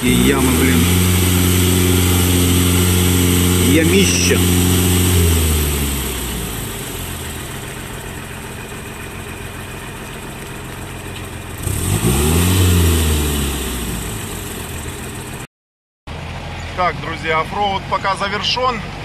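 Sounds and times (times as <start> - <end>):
truck engine revving: 0.0 - 15.5.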